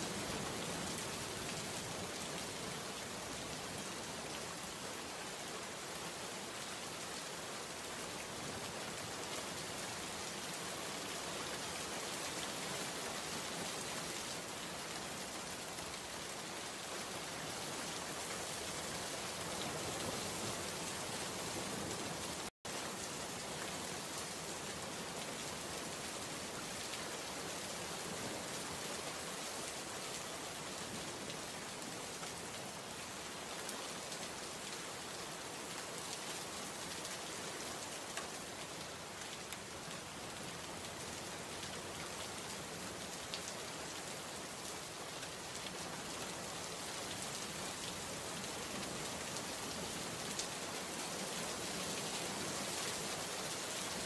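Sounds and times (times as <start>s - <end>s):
heavy rain on a wet road: 0.0s - 54.0s.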